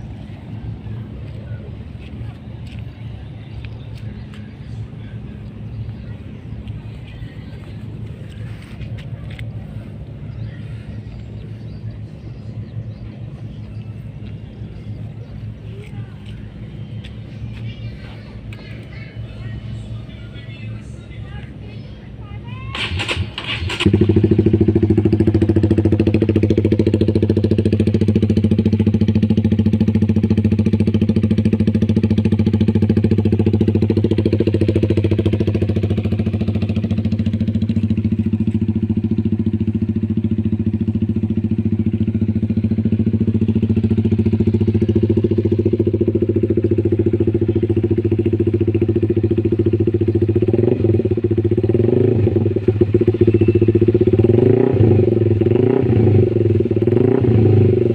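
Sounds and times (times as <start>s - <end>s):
motorcycle engine idling: 0.0s - 57.9s.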